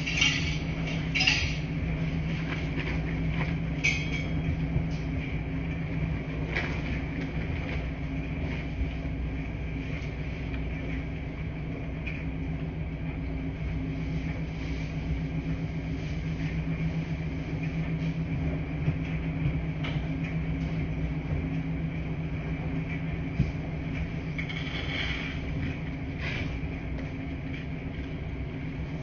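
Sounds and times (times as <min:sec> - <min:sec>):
washing machines humming: 0:00.0 - 0:29.0.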